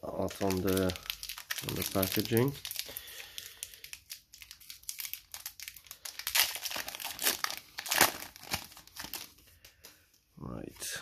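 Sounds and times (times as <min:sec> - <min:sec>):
foil wrapper crinkling and tearing: 0:00.1 - 0:09.4.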